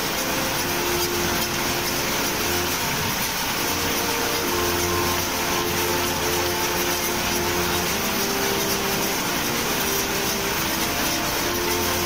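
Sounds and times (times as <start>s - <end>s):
water rushing through trough: 0.0s - 12.0s.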